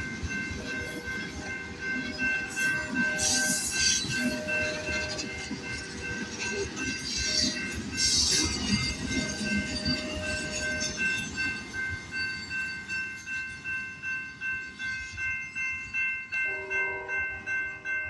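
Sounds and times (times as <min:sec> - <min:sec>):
freight train rumbling past: 0:00.0 - 0:18.0
railroad crossing bell ringing: 0:00.0 - 0:18.0.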